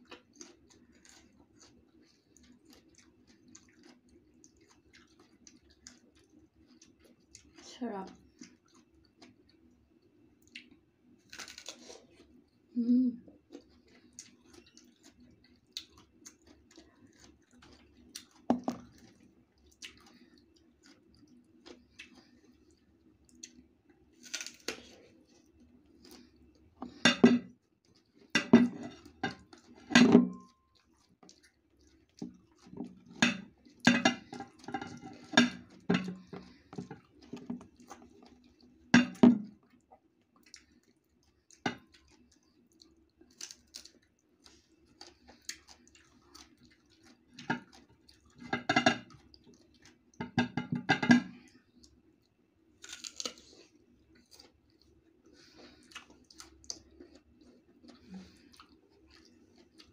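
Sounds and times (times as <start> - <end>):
crunching and chewing mango: 0.0 - 50.6, 51.2 - 59.9.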